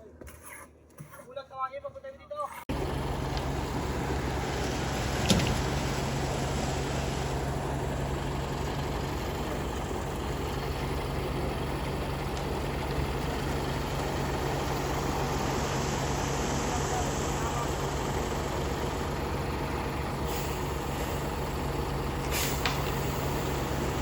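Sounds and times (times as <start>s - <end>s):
diesel truck engine humming: 2.7s - 24.0s.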